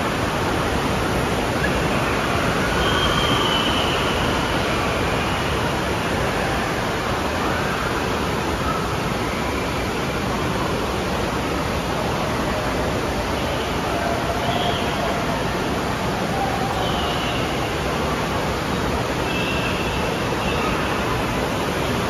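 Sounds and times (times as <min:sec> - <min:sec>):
water rushing and churning: 0:00.0 - 0:22.0.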